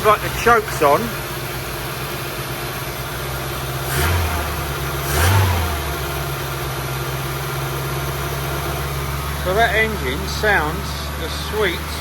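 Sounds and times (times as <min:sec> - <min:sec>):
petrol engine running on choke: 0:00.0 - 0:12.0.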